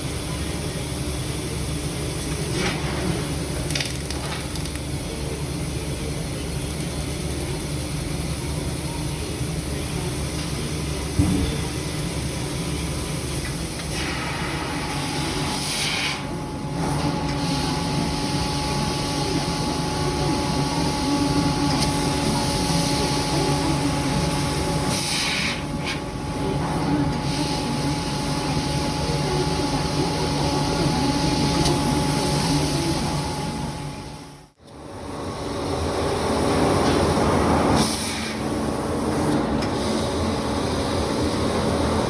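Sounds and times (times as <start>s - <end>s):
machinery whine and rumble: 0.0s - 42.0s.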